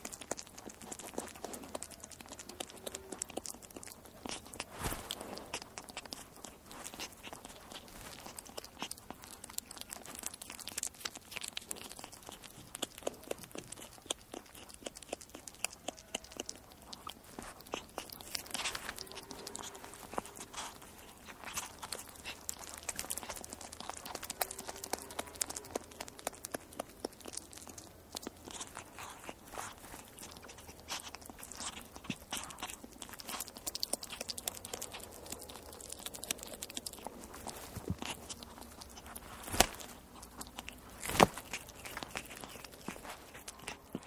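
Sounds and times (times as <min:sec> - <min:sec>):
weasel crunching and chewing food: 0:00.0 - 0:44.0.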